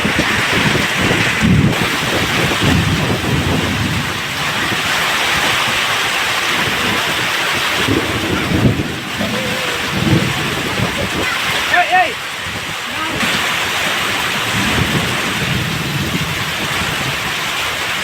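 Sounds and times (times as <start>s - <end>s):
heavy rain pouring: 0.0s - 18.0s
wind buffeting microphone: 0.0s - 18.0s.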